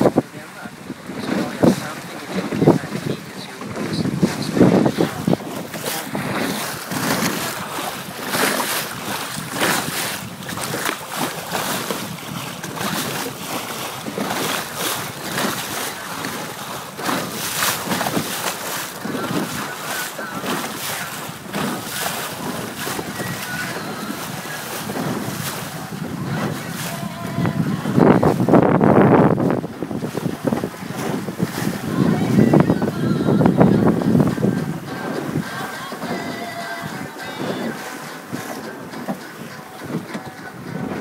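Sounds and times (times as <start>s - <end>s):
choppy water rushing along hull: 0.0s - 41.0s
wind buffeting microphone: 0.0s - 41.0s.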